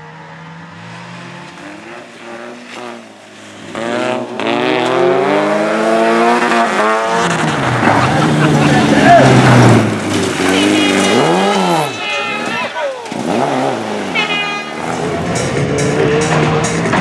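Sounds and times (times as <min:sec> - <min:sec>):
race car engine accelerating: 0:00.0 - 0:12.2, 0:13.0 - 0:14.2, 0:14.8 - 0:17.0.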